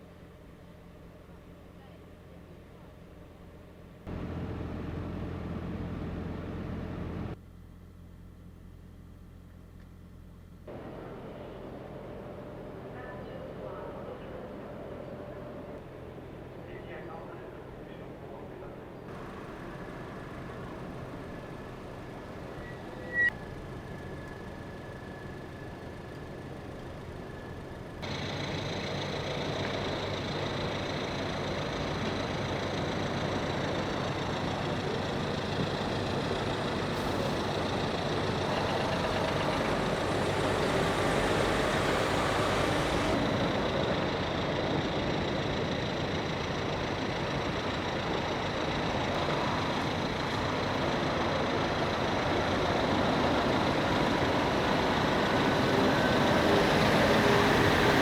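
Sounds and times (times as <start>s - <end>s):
vehicle engines running: 2.6s - 7.4s, 9.5s - 58.0s
traffic noise: 3.4s - 7.4s, 10.7s - 58.0s.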